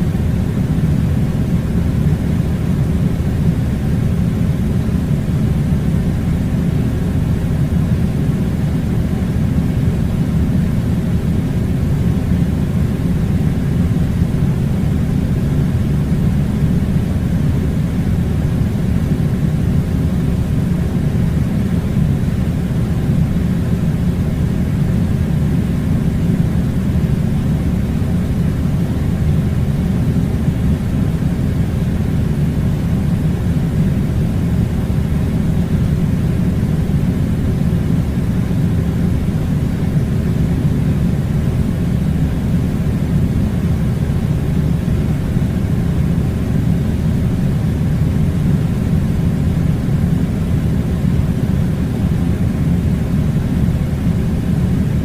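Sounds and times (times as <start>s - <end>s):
air conditioning rumble: 0.0s - 55.0s.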